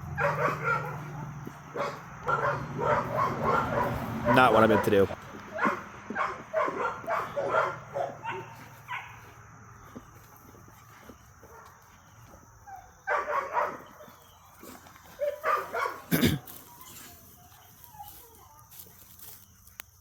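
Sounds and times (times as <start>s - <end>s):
dogs barking and yipping: 0.0s - 19.5s.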